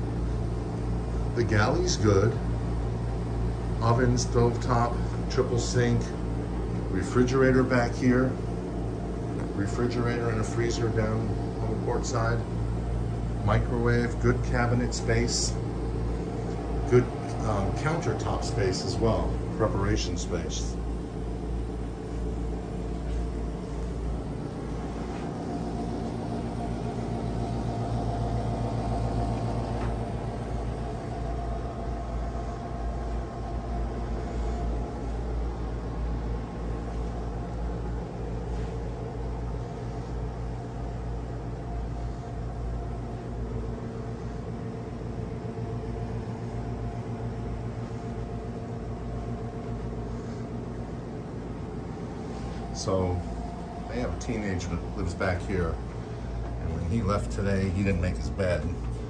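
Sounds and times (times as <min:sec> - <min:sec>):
air conditioning humming: 0:00.0 - 0:59.0.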